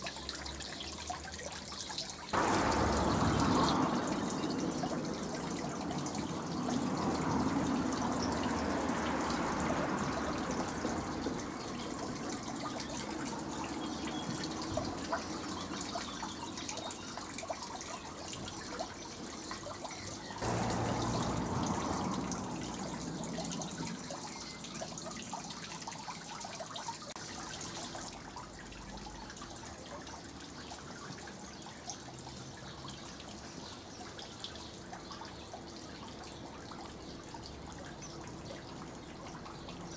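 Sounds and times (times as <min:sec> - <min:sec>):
fountain splashing and trickling: 0:00.0 - 0:39.9.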